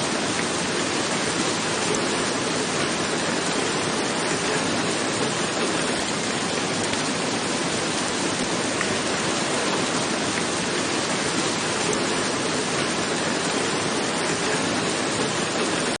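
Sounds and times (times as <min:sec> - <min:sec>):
rain falling on a roof: 0:00.0 - 0:16.0.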